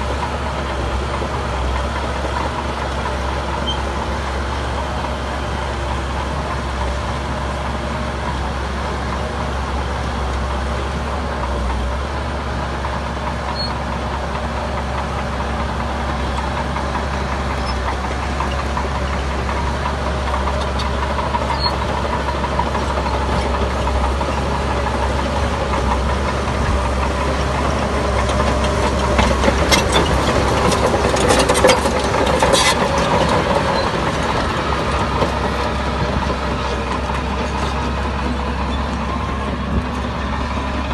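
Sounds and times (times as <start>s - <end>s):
diesel construction machinery running: 0.0s - 40.9s.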